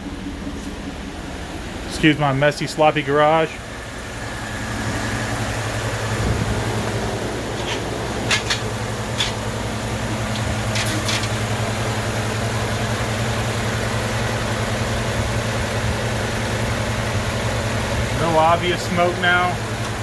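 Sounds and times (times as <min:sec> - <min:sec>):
truck engine idling: 0:00.0 - 0:20.0
sharp engine clicks: 0:01.9 - 0:20.0.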